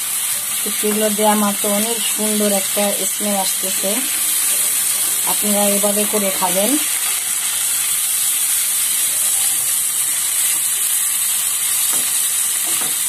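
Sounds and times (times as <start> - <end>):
fish and onions frying in oil: 0.0 - 13.0.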